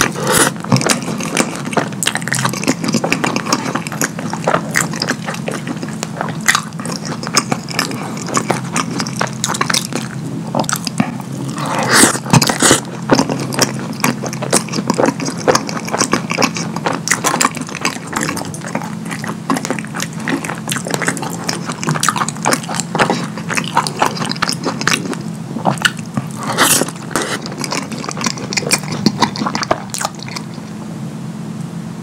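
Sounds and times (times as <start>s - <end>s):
wet chewing and lip smacking: 0.0s - 30.8s.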